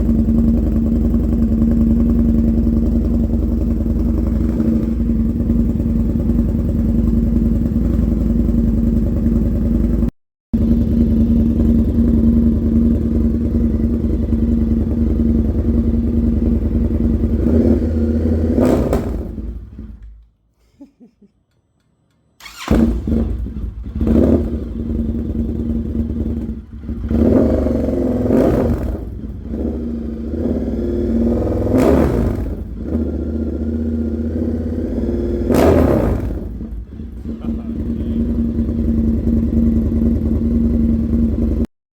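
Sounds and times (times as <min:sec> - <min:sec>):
motorcycle engine idling and revving: 0:00.0 - 0:20.3, 0:22.4 - 0:41.7.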